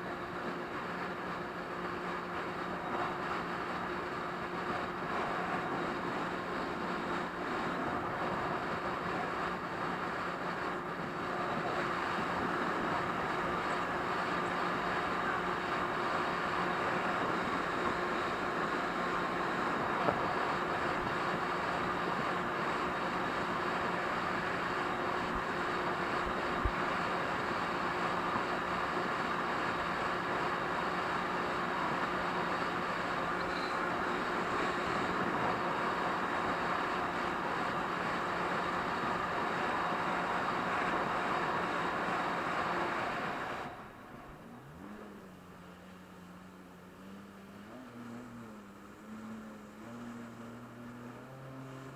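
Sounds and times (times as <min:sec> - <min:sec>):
jet ski engine droning: 0:00.0 - 0:51.9.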